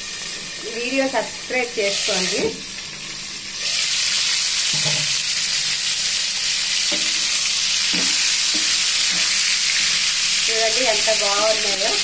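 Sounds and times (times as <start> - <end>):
peppers sizzling in hot oil: 0.0 - 12.0.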